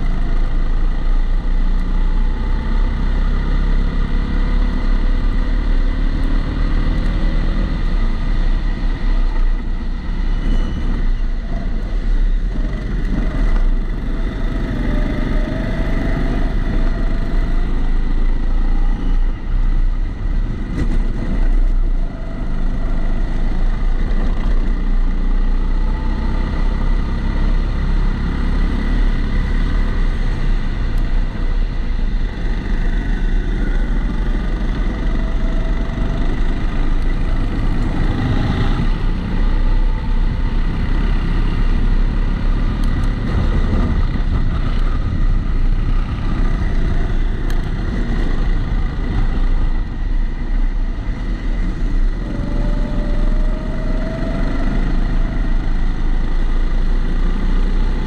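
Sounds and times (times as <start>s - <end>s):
go-kart engine running: 6.8s - 58.0s.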